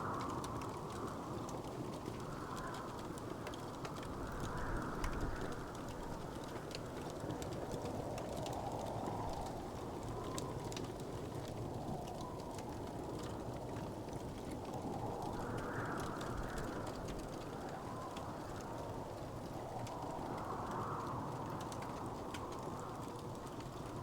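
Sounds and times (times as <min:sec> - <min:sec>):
low rushing of fire: 0:00.0 - 0:24.0
wood fire crackling: 0:00.0 - 0:24.0.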